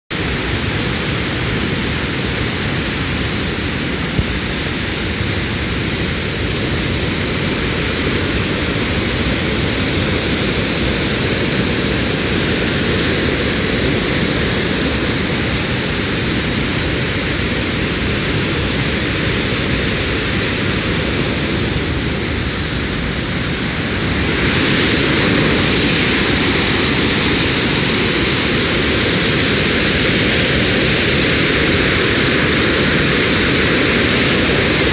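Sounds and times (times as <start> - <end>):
floodwater rushing from dam: 0.1 - 34.9.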